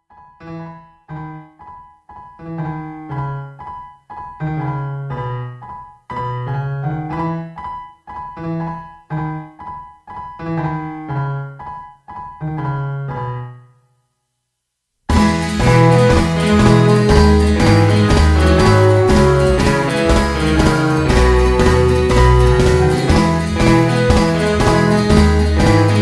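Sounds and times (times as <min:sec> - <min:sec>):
gentle piano melody: 0:00.1 - 0:13.9, 0:15.1 - 0:26.0.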